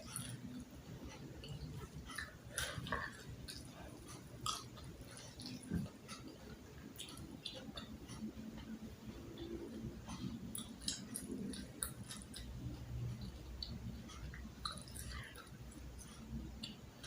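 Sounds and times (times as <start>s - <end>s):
faint low hum: 0.0s - 17.0s
person chewing food: 0.0s - 17.0s.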